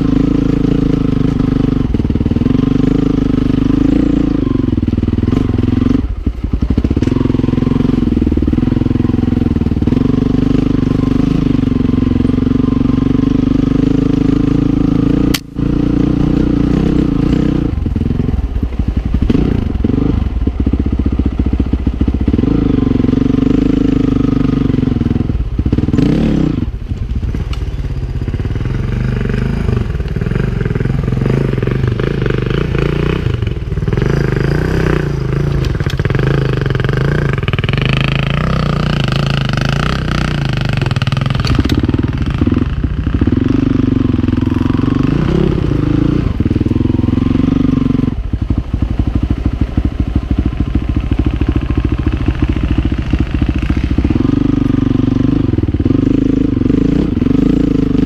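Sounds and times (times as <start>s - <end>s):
motorcycle engine low revs: 0.0s - 58.0s.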